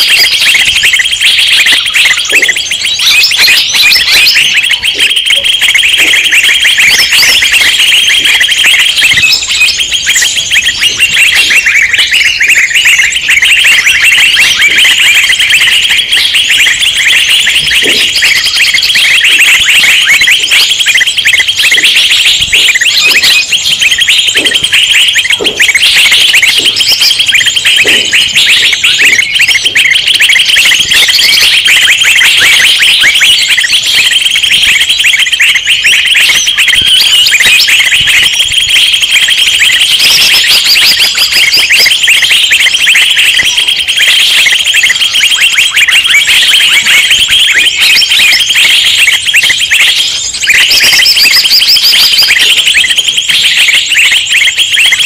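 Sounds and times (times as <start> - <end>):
many small birds chirping: 0.0 - 55.0.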